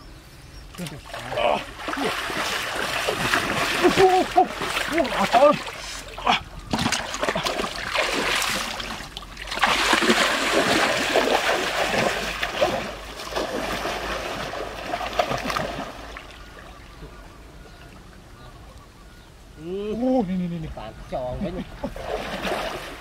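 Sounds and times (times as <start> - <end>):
water splashing and sloshing: 0.7 - 18.2, 21.7 - 23.0.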